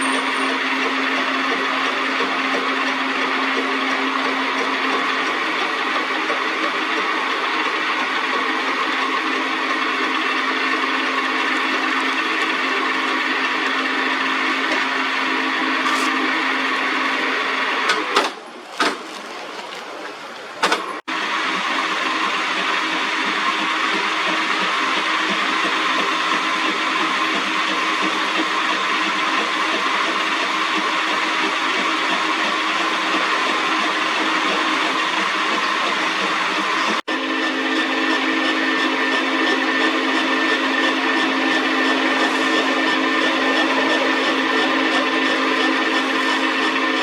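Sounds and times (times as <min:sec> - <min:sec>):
metal lathe cutting: 0:00.0 - 0:18.2, 0:21.0 - 0:47.0.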